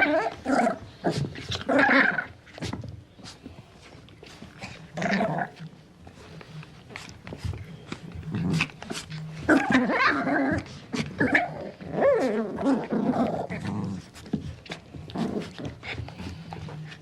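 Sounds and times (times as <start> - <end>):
puppy growling and whining: 0.0 - 2.9, 4.5 - 5.8, 7.4 - 17.0.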